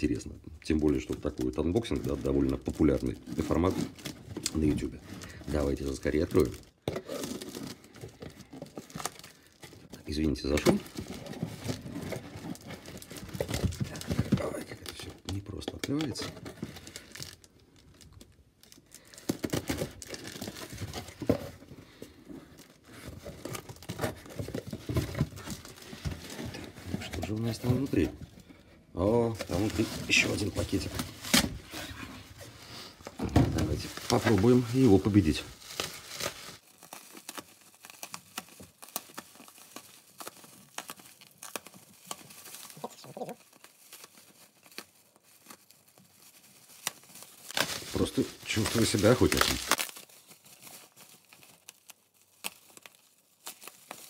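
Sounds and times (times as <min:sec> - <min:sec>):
bubble wrap and plastic crinkling: 0:00.0 - 0:54.0.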